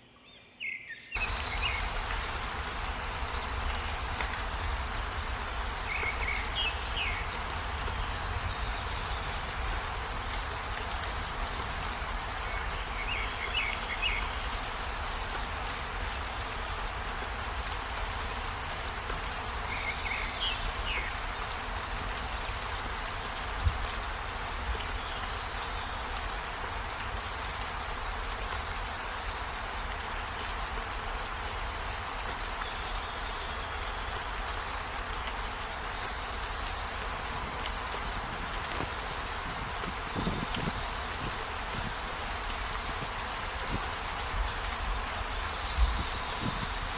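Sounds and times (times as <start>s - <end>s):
dense rainforest hiss: 0.2s - 46.9s.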